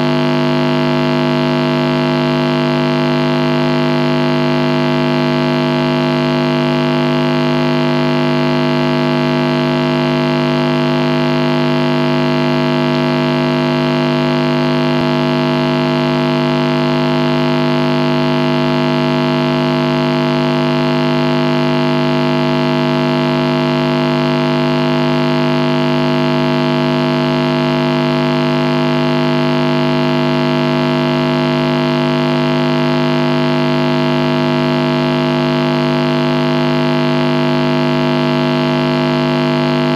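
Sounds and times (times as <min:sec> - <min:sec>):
guitar amplifier buzzing hum: 0:00.0 - 0:39.9.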